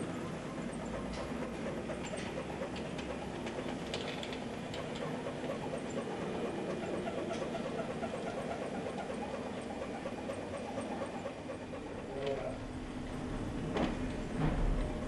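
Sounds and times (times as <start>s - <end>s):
model train running: 0.0s - 15.0s
wheels clicking on track: 0.0s - 15.0s.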